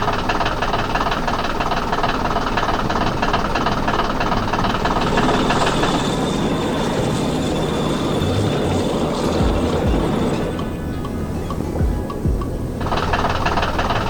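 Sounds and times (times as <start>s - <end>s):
heavy diesel engine rattling: 0.0s - 14.0s.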